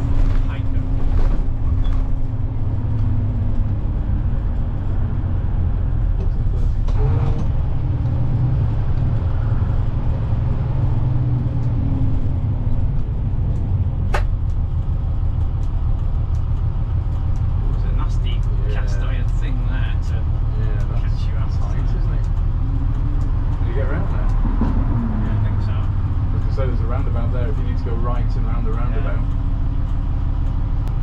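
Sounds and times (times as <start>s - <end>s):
coach engine and road rumble: 0.0s - 31.0s.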